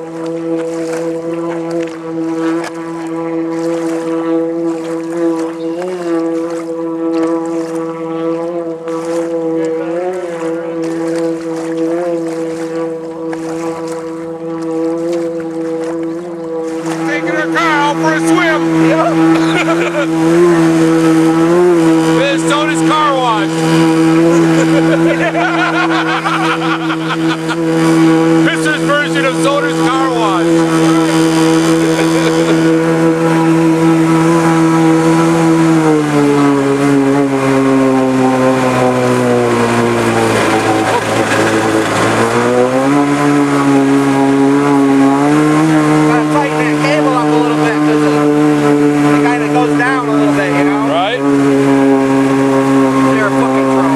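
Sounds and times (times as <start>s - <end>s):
engine running: 0.0s - 53.9s
water splashing: 0.0s - 53.9s.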